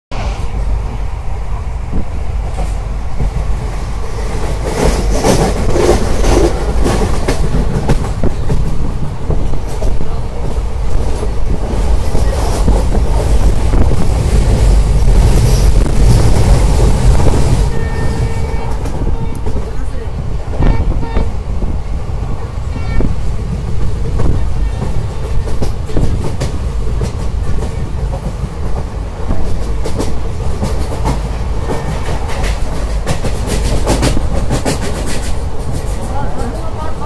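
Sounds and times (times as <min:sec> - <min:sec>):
train rumbling on track: 0:00.1 - 0:37.0.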